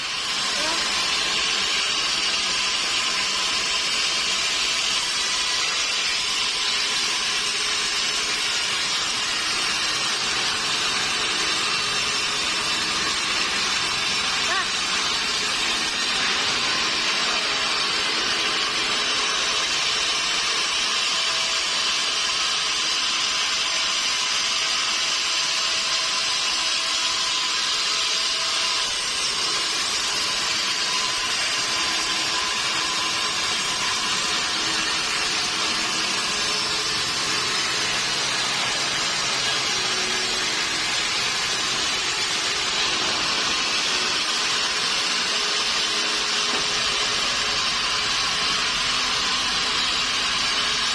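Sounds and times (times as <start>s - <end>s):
saw cutting through log: 0.0s - 50.9s.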